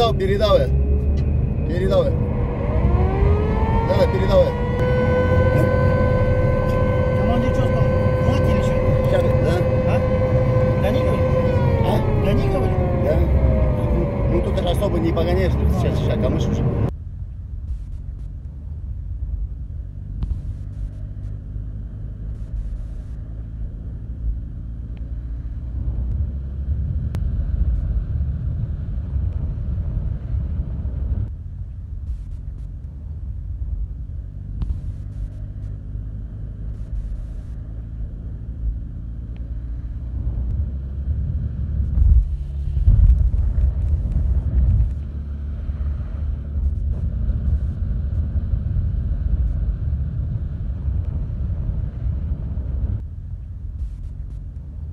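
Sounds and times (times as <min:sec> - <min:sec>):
propeller sled engine drone: 0:00.0 - 0:54.9.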